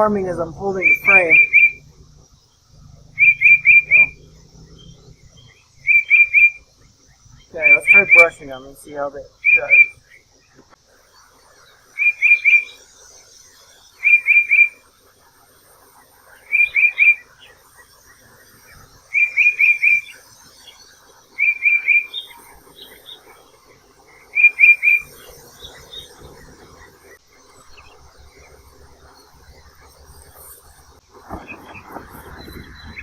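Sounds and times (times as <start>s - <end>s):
bird chirping: 0.0s - 10.6s, 11.2s - 14.9s, 16.3s - 33.0s.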